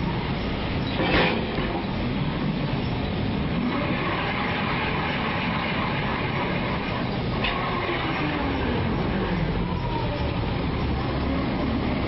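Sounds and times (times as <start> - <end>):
model excavator motors whining: 0.0 - 12.0.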